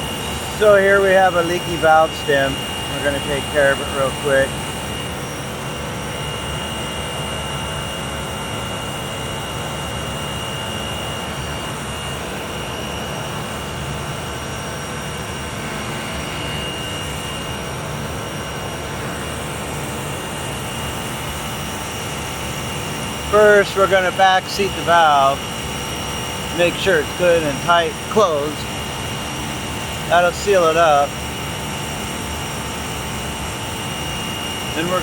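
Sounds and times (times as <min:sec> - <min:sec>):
plant-room machinery droning: 0:00.0 - 0:35.0
thin high whine: 0:00.0 - 0:35.0.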